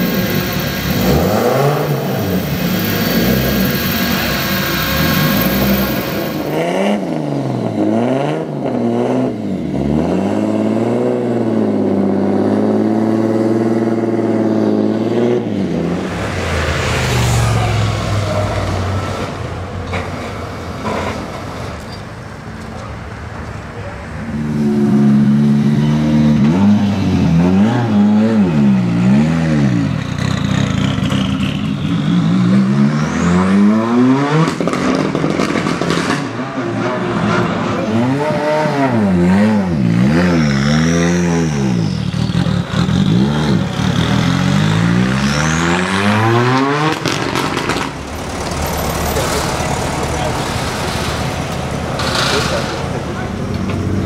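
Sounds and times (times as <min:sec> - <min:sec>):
race car engine revving: 0:00.0 - 0:19.4, 0:24.3 - 0:54.0.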